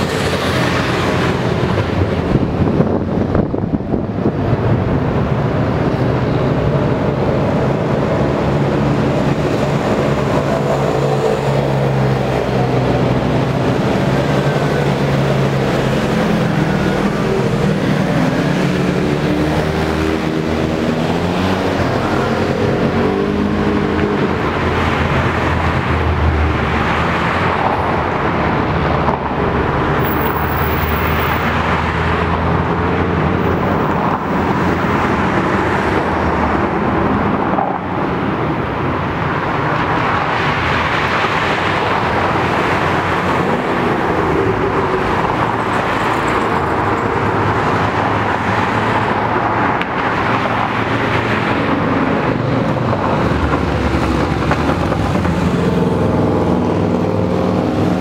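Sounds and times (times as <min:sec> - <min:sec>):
vehicles driving past: 0:00.0 - 0:58.0.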